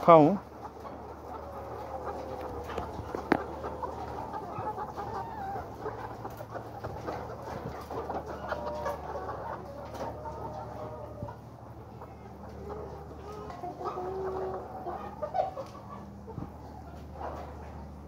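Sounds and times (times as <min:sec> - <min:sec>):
hens clucking and calling: 0:00.0 - 0:18.0.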